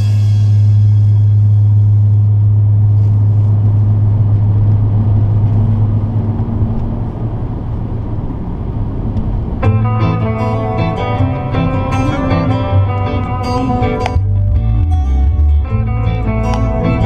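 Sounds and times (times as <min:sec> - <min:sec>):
car engine drone: 0:00.0 - 0:17.0
road and tyre rumble: 0:00.0 - 0:17.0.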